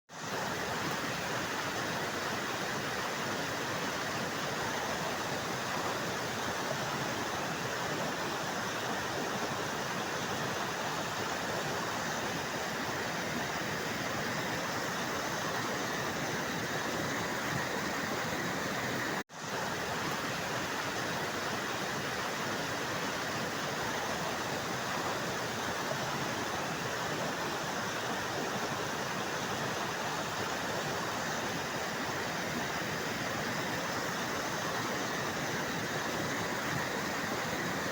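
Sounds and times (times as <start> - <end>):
waterfall rushing: 0.4 - 37.9.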